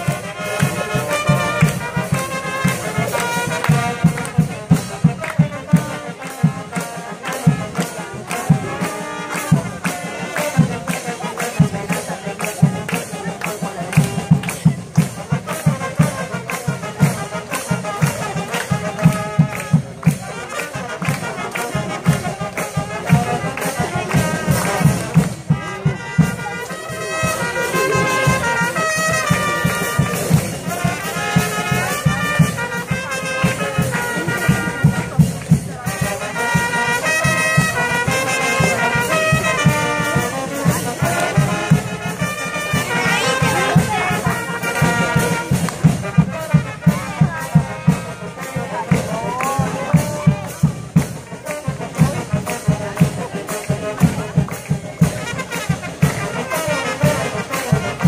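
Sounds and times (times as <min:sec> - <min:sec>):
brass band playing: 0:00.0 - 0:58.0
percussion beat: 0:00.0 - 0:58.0.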